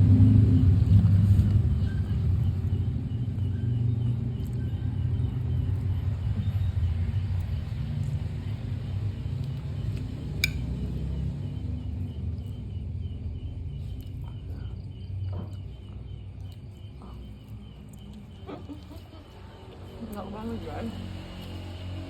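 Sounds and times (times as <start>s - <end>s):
passing vehicle rumble: 0.0s - 22.0s
insect chirping: 0.5s - 22.0s.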